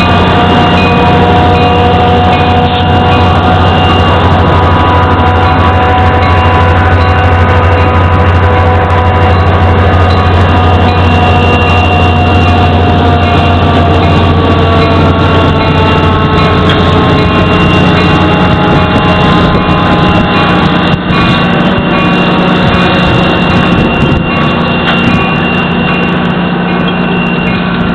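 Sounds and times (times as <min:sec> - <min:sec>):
diesel locomotive engine running: 0:00.0 - 0:27.9.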